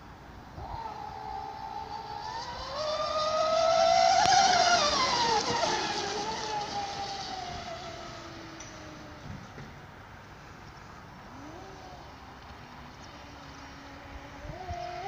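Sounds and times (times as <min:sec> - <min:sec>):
model speedboat motor whine: 0:00.0 - 0:15.0.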